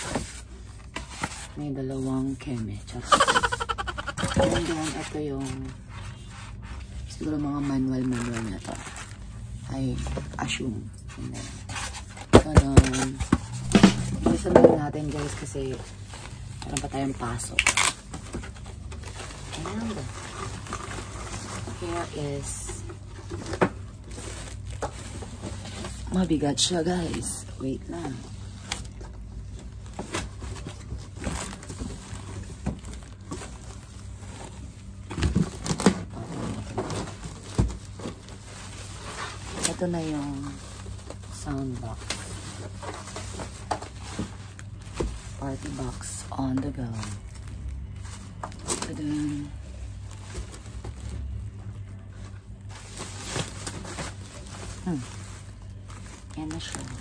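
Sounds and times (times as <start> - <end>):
plastic bag rustling: 3.0 - 9.7, 15.0 - 57.0.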